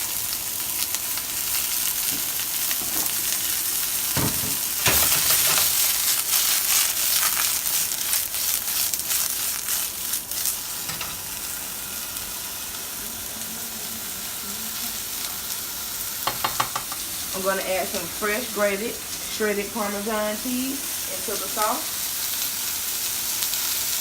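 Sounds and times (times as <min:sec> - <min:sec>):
mushrooms sizzling in frying pan: 0:00.0 - 0:24.0.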